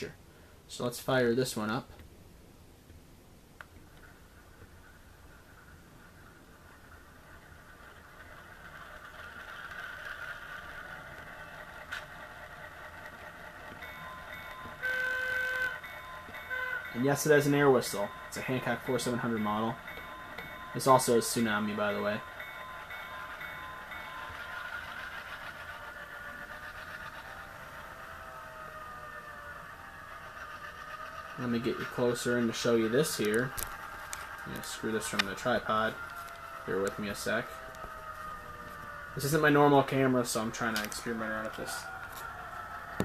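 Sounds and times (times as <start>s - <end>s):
model diesel locomotive engine sound: 0.0s - 43.0s.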